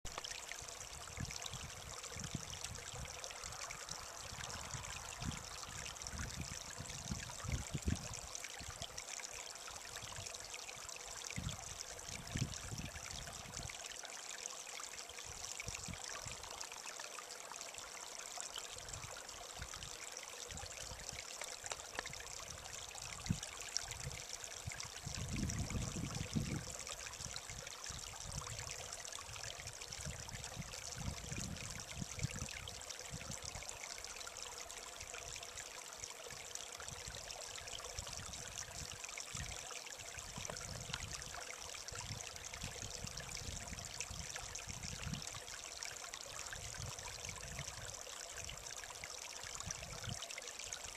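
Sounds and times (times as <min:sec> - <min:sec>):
stream trickling over rocks: 0:00.0 - 0:50.9.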